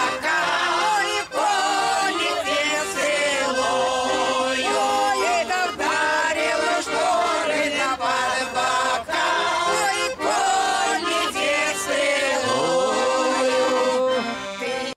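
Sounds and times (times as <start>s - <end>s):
button accordion: 0.0s - 14.9s
group singing in chorus: 0.0s - 14.9s.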